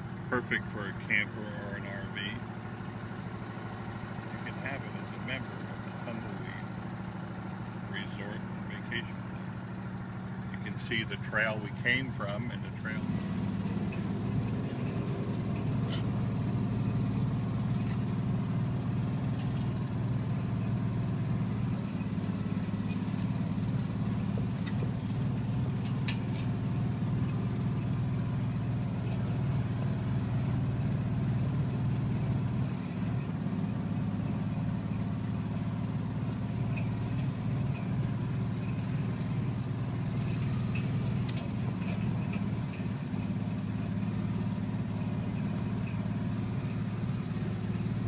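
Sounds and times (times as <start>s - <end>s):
vehicle engine droning: 0.0s - 48.0s.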